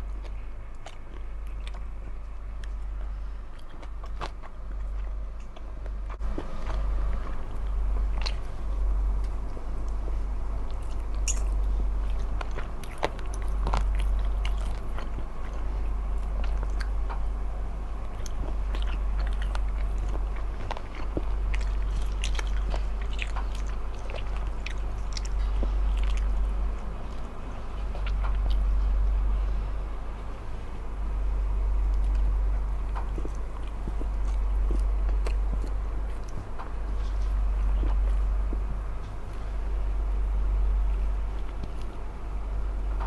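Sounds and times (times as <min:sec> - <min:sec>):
biting and chewing food: 0:00.0 - 0:29.8, 0:31.0 - 0:43.0
steady low hum: 0:00.0 - 0:43.0.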